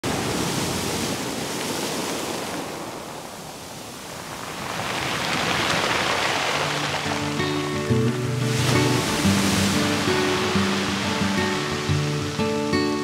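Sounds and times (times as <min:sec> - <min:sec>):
surf washing against rocks: 0:00.0 - 0:13.0.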